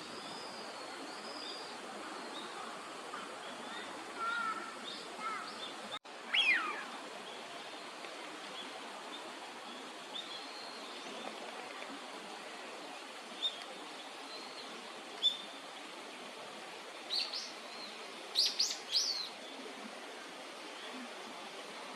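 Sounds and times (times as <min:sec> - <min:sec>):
steady background hiss: 0:00.0 - 0:21.9.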